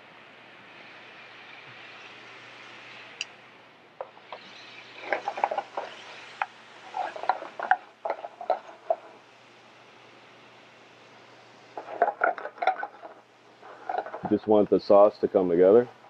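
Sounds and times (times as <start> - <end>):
faint sizzling hiss: 0.0 - 16.0.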